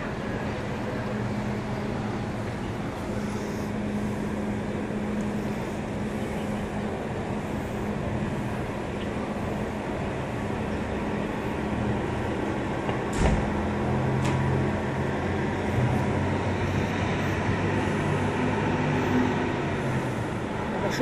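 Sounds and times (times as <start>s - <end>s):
ship machinery hum: 0.0s - 21.0s.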